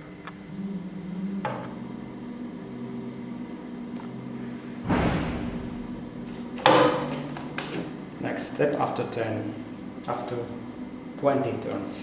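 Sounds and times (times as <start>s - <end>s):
coil winding machine humming: 0.0s - 12.0s.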